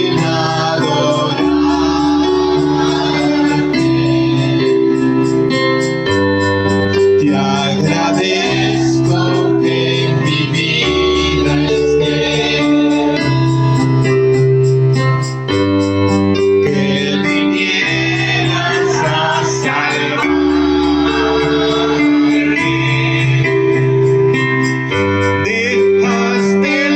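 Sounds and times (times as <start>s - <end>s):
bass notes: 0.0s - 26.5s
organ chords: 0.0s - 26.9s.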